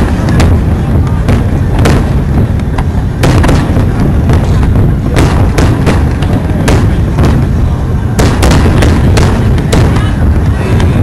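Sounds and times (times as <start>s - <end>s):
fireworks bursting: 0.0s - 11.0s
low rumble: 0.0s - 11.0s.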